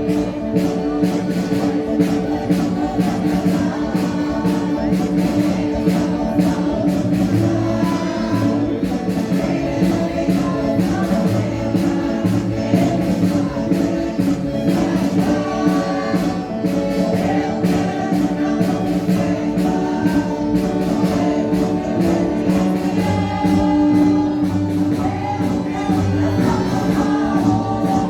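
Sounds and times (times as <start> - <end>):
band accompaniment with steady beat: 0.0 - 28.0
group singing in chorus: 0.0 - 28.0.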